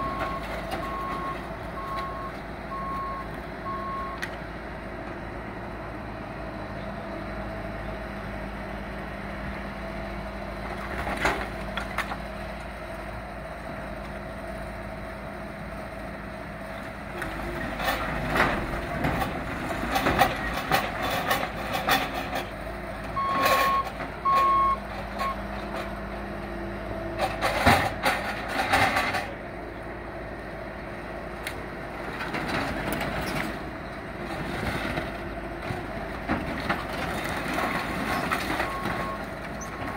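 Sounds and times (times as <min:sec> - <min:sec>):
skid-steer loader running: 0:00.0 - 0:39.9.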